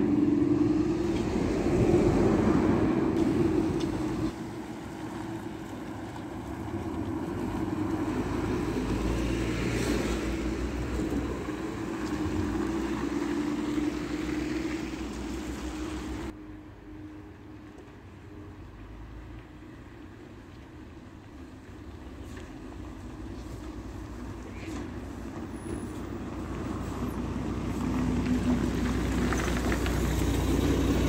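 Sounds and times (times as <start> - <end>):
bus engine driving past: 0.0 - 31.0.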